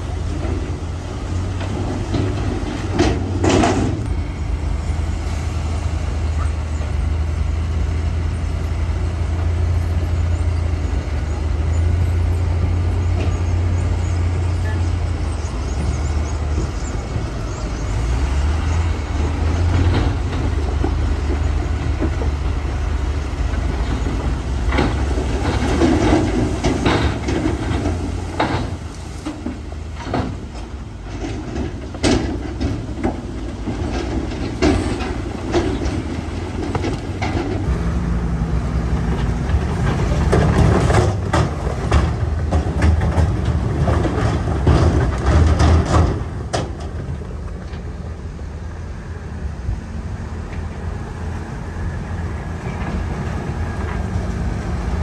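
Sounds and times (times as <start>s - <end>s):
heavy diesel machinery drone: 0.0s - 55.0s.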